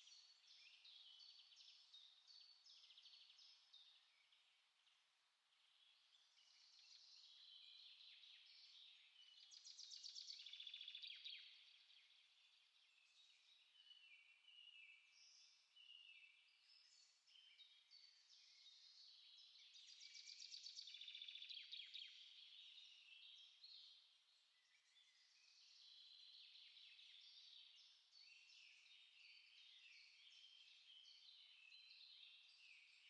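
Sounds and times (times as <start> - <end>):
songbirds singing and chirping: 0.0 - 33.0.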